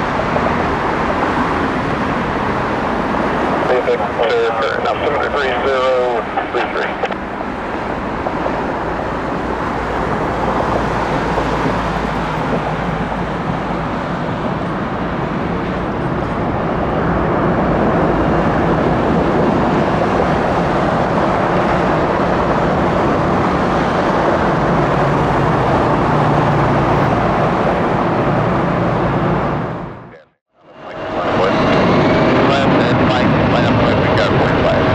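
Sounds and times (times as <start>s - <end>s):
jet engines running: 0.0s - 34.9s.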